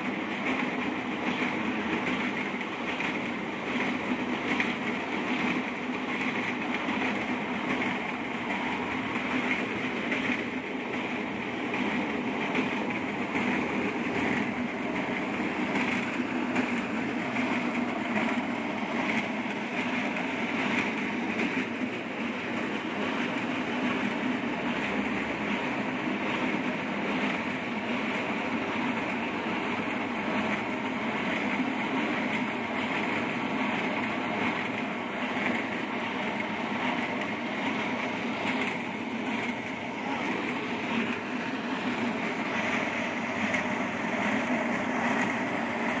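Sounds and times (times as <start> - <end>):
machine engine: 0.0 - 46.0.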